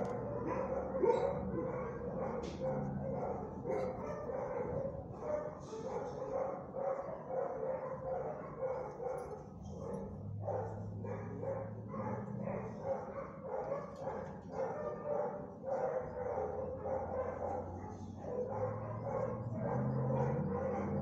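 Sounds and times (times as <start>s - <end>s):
dogs barking: 0.0s - 21.0s.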